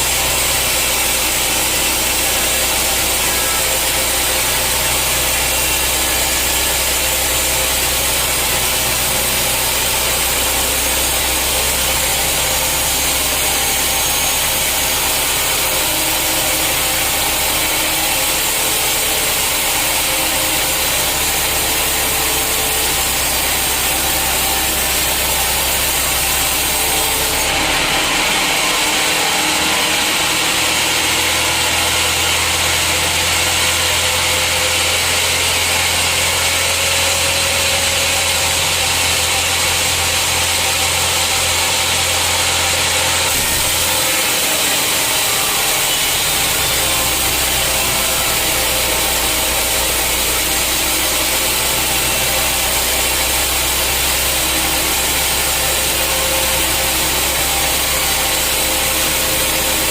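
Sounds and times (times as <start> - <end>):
saw cutting through log: 0.0 - 59.9.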